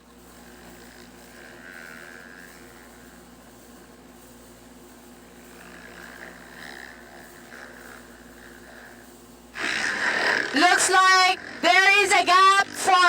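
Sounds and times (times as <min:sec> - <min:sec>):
distant dirt bike engines droning: 0:00.0 - 0:13.0.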